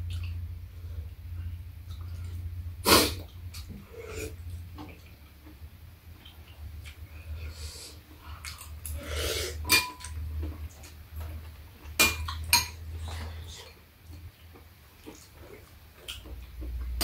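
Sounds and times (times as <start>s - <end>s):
soft eating noises: 0.0s - 17.0s
steady low hum: 0.0s - 17.0s.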